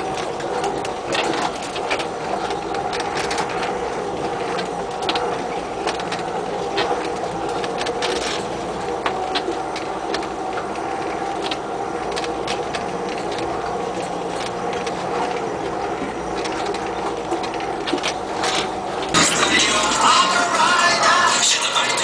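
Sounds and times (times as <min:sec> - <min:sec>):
body rattling clicks and knocks: 0:00.0 - 0:19.2
vehicle engine running: 0:00.0 - 0:22.0.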